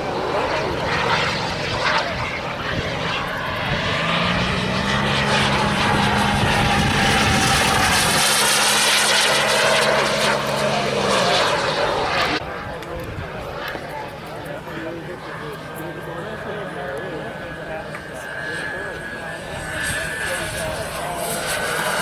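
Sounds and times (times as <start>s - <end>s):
low steady drone: 0.0s - 22.0s
model jet engine whine: 0.0s - 22.0s.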